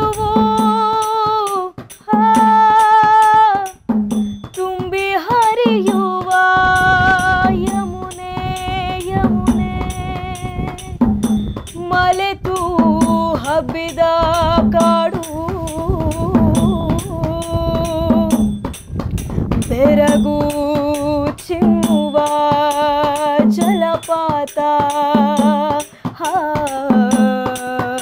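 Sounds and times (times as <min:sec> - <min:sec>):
dholak drum rhythm: 0:00.0 - 0:28.0.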